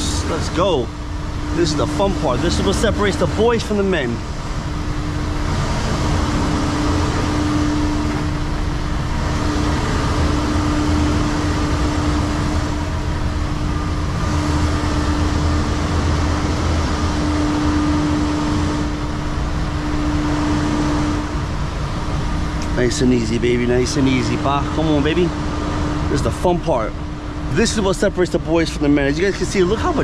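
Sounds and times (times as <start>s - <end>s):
constant hum: 0.0s - 30.0s
diesel truck engine drone: 0.0s - 30.0s.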